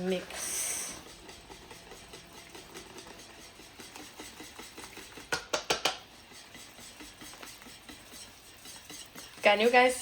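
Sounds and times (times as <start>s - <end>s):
batter stirred in a bowl: 0.0s - 10.0s.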